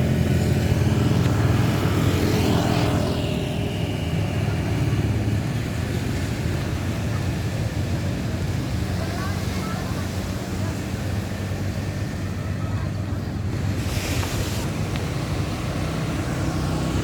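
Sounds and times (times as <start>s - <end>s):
bus engine drone: 0.0s - 17.0s
vehicle passing: 0.0s - 17.0s.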